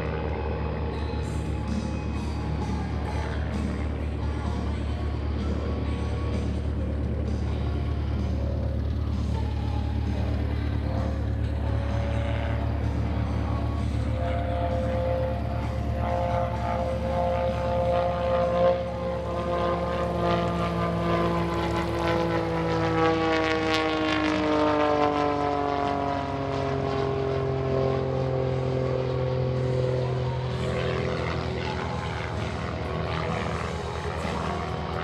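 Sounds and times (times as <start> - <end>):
propeller plane droning overhead: 0.0 - 35.0.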